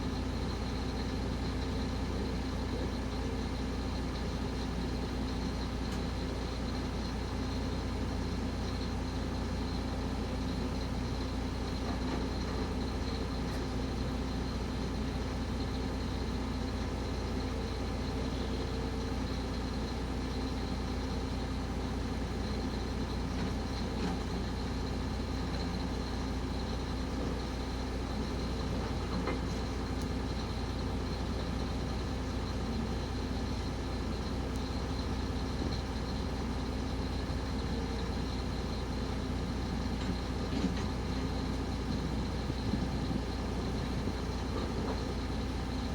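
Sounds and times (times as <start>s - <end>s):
heavy vehicle engine running: 0.0s - 45.9s.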